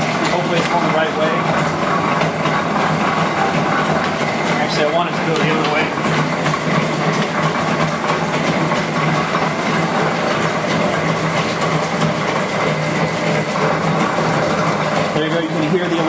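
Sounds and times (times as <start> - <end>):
milling machine gear clatter: 0.0 - 16.0.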